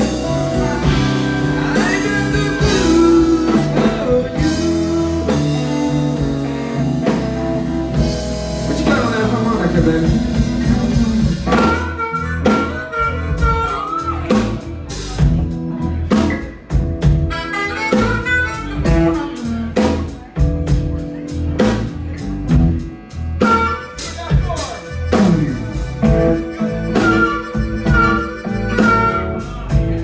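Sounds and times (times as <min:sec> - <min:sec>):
amplified harmonica: 0:00.0 - 0:15.1, 0:17.1 - 0:20.0, 0:22.2 - 0:30.0
drum kit beat: 0:00.0 - 0:30.0
electric guitars: 0:00.0 - 0:30.0.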